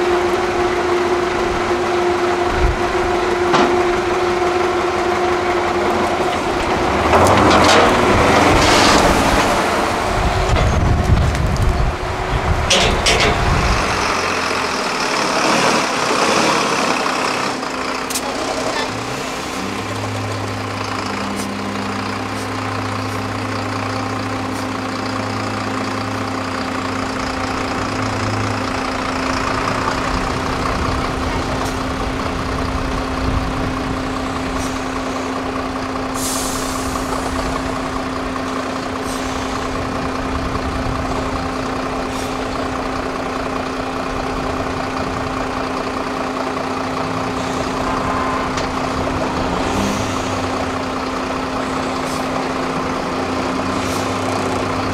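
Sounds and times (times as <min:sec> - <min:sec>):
diesel truck engine droning: 0:00.0 - 0:54.9.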